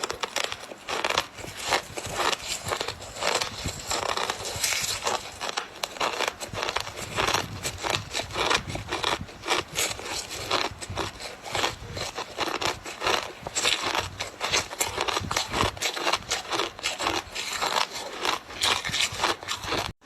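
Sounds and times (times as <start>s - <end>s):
ice crunching between teeth: 0.0s - 20.0s.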